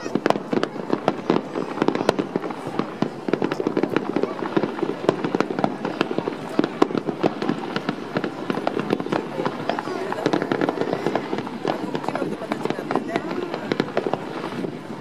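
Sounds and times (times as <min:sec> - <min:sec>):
fireworks popping and banging: 0:00.0 - 0:15.0.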